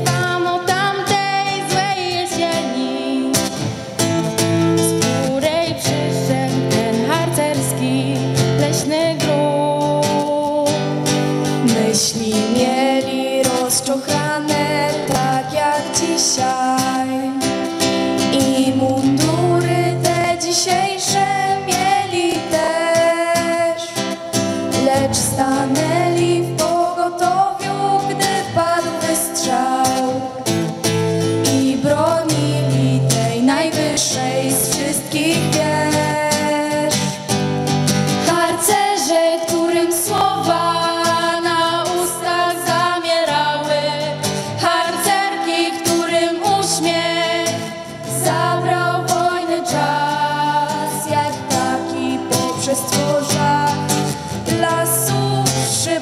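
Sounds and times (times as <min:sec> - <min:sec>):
girls singing into microphones: 0:00.0 - 0:03.8, 0:11.6 - 0:30.6, 0:31.3 - 0:37.4, 0:38.1 - 0:56.0
strummed acoustic guitar: 0:00.0 - 0:56.0.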